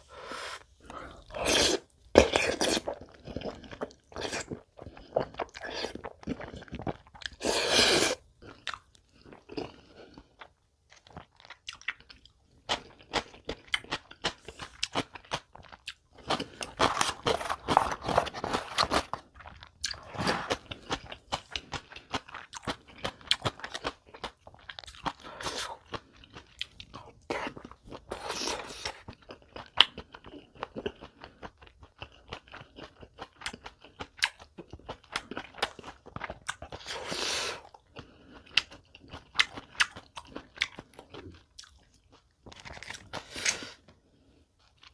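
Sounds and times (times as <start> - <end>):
crunching and chewing crisp food: 0.6 - 44.9.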